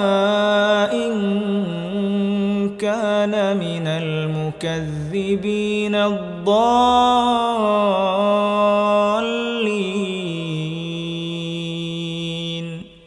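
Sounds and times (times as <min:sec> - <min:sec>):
person chanting melodically: 0:00.0 - 0:13.0.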